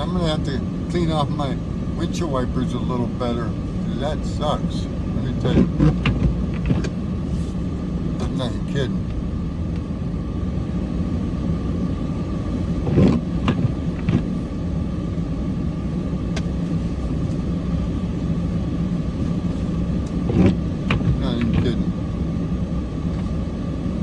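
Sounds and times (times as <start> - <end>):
diesel truck engine running: 0.0 - 24.0
faint steady whine: 0.0 - 24.0.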